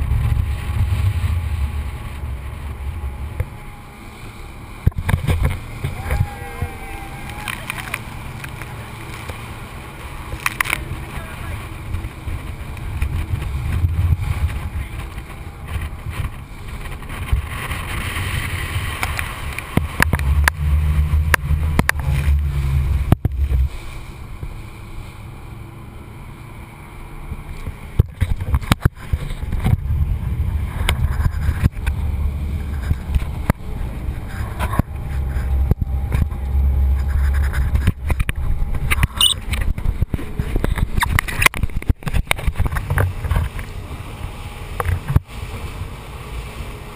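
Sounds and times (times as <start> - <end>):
muffled wind and engine rumble: 0.0 - 46.9
water slapping against hull: 0.0 - 46.9.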